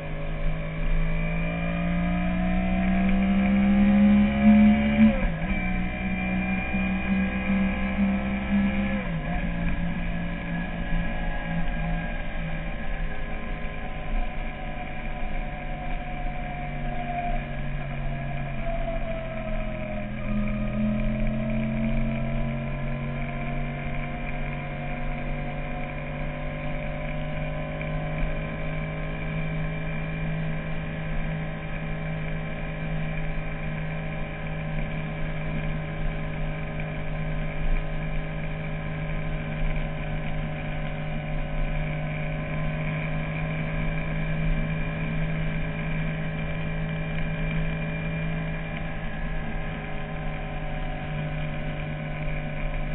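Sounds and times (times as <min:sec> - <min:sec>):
motorcycle engine cruising: 0:00.0 - 0:52.9.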